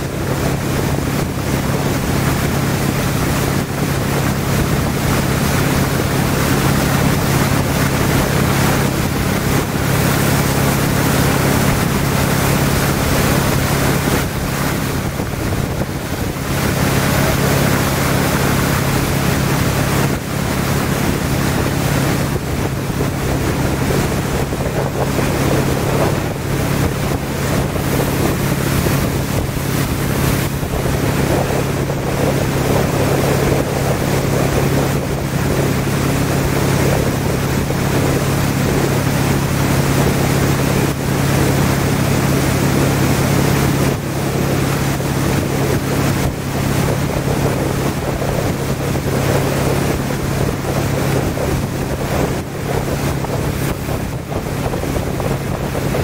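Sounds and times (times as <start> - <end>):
motorboat engine running: 0.0 - 56.0
water rushing: 0.0 - 56.0
wind buffeting microphone: 0.0 - 56.0.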